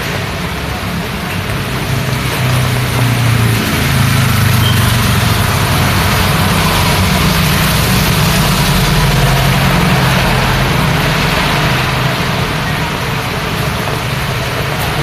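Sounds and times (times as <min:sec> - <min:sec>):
rain on the road: 0:00.0 - 0:15.0
vehicle engine running: 0:00.0 - 0:15.0.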